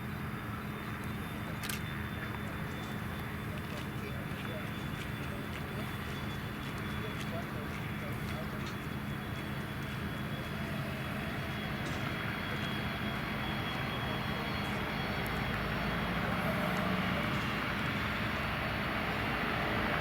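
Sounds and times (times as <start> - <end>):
jet engines with high whine: 0.0 - 20.0.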